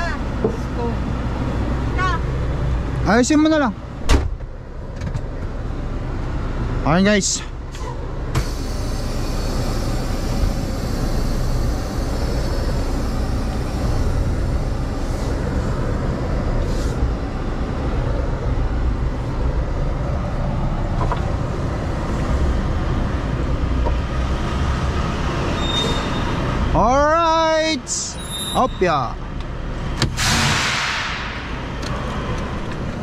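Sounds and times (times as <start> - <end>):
diesel truck engine rumbling: 0.0 - 33.0.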